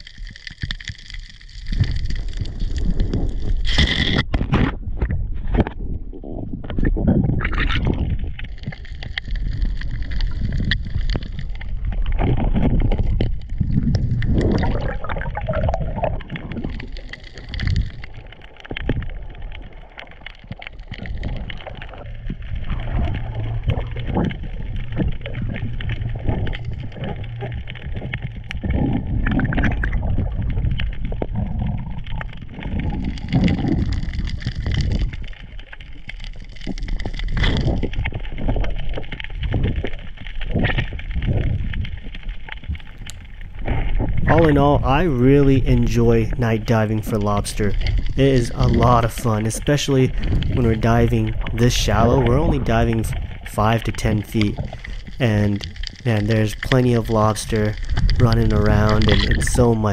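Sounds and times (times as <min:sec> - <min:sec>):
crackle of short clicks: 0:00.0 - 0:05.8, 0:07.4 - 0:44.9, 0:45.6 - 0:59.9
muffled underwater rushing water: 0:00.0 - 0:59.9.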